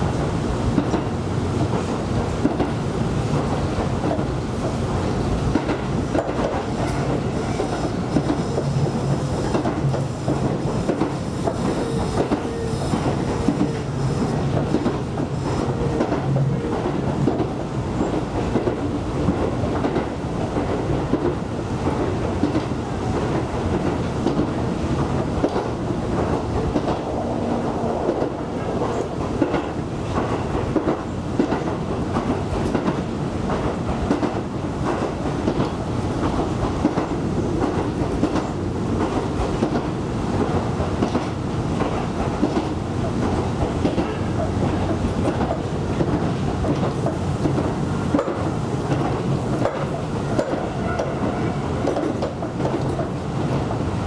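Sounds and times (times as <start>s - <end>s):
clickety-clack of rail joints: 0.0s - 54.0s
train wheels rumbling on rail: 0.0s - 54.0s.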